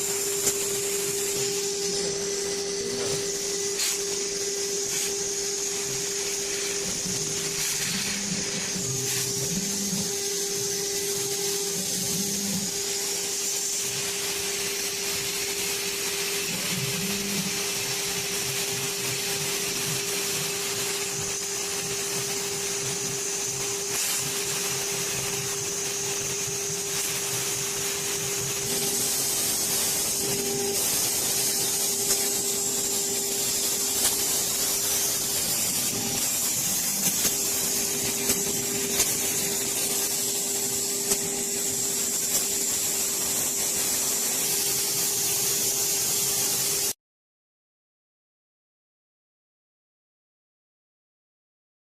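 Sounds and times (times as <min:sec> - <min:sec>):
milling spindle whine: 0:00.0 - 0:46.8
hiss: 0:00.0 - 0:47.0.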